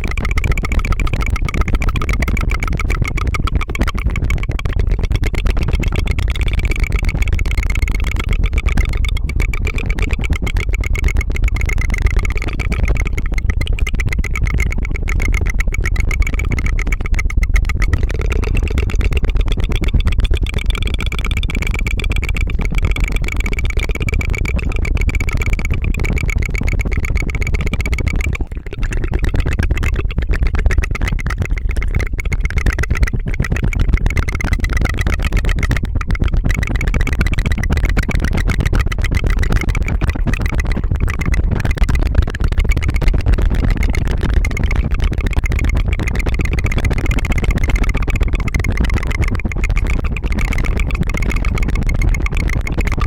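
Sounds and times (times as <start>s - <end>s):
rapid tongue trill: 0.0s - 53.0s.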